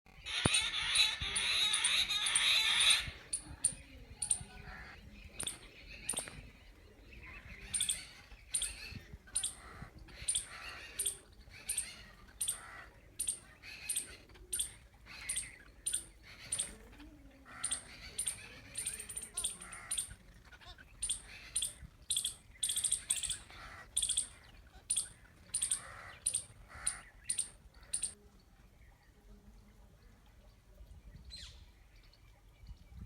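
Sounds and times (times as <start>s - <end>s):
birds harsh chattering: 0.1s - 28.2s.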